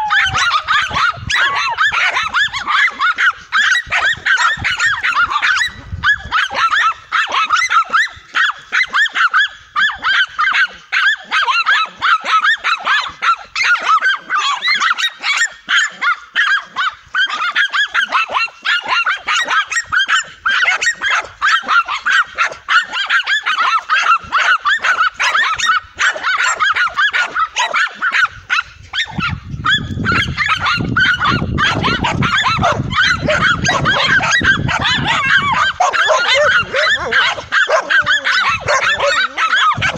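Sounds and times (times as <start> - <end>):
dogs barking frantically: 0.0 - 39.9.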